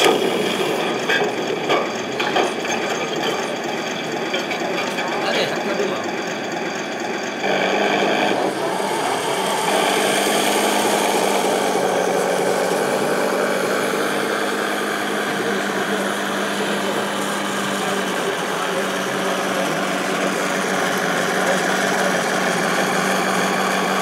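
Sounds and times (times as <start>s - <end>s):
model tank driving: 0.0s - 24.0s.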